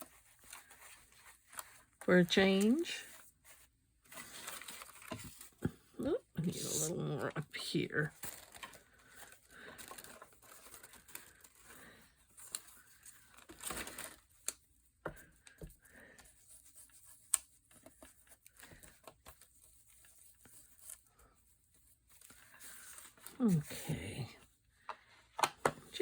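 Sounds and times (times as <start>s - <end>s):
paper rustling and crinkling: 0.0s - 5.9s, 8.0s - 25.9s.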